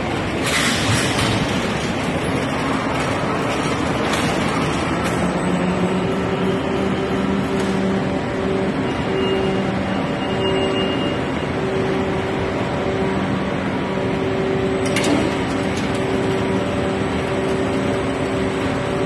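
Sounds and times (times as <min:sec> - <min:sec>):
conveyor machinery noise: 0:00.0 - 0:19.0.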